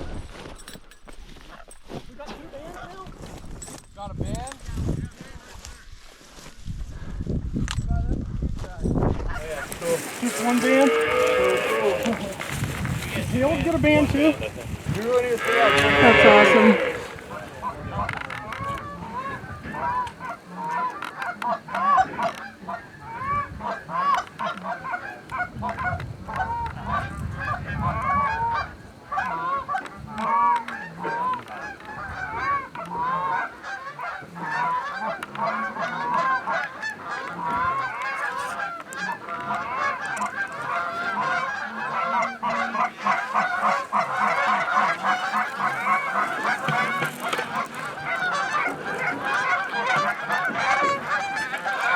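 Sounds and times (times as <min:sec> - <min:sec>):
geese honking: 0:09.4 - 0:51.9.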